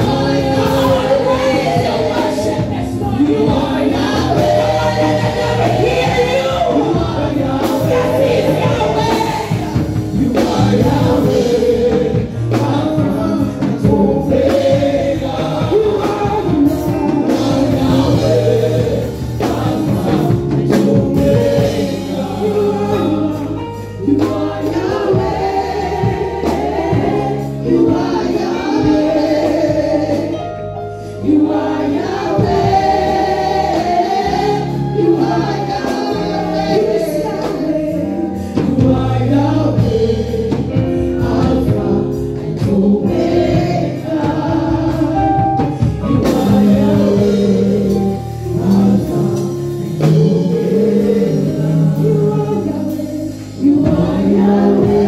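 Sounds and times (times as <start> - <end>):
group singing worship song: 0.0 - 55.0
instrumental accompaniment: 0.0 - 55.0.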